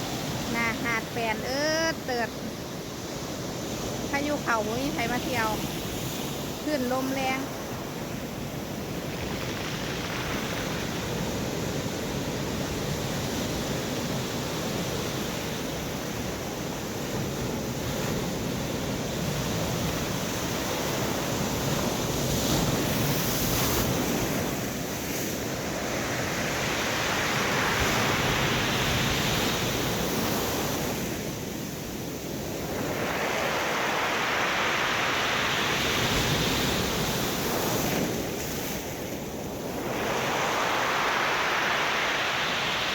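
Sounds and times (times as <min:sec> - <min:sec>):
surf breaking on beach: 0:00.0 - 0:42.9.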